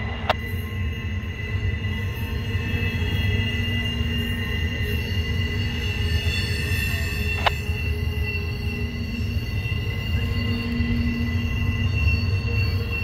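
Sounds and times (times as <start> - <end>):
freight train rumbling: 0.0 - 13.0
steel wheels squealing on rail: 0.0 - 13.0.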